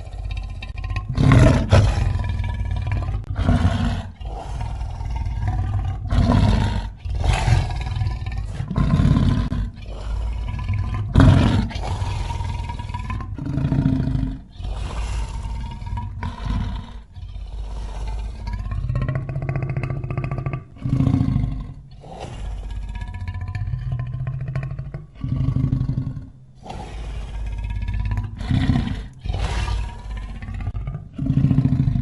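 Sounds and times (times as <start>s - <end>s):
deep lion-like roars and snarls: 0.0s - 32.0s.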